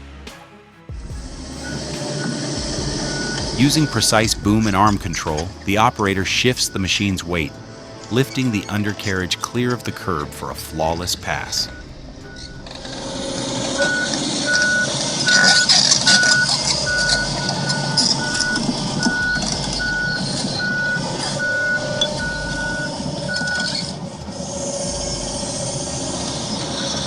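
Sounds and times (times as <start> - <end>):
engine and work noise: 1.1 - 27.0
reversing alarm beeping: 1.1 - 27.0.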